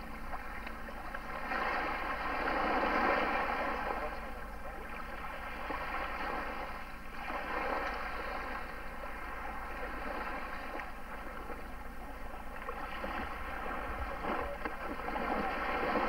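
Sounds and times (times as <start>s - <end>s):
distant motorboat engine drone: 0.0s - 16.0s
wind and water hiss: 0.0s - 16.0s.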